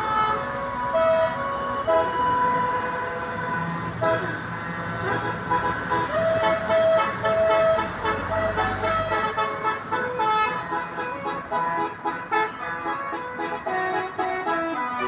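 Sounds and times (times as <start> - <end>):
multi-tone bus horn tune: 0.0 - 15.0.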